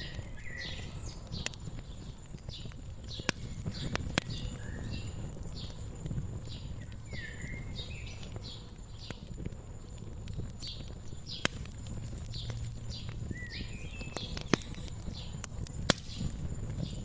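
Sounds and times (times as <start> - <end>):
small birds chirping: 0.0 - 17.0
wood fire crackling: 0.0 - 17.0.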